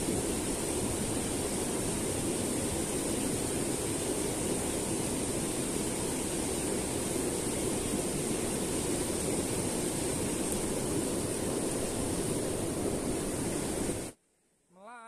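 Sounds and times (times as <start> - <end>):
river water rushing: 0.0 - 14.2
faint high hiss: 0.0 - 15.0.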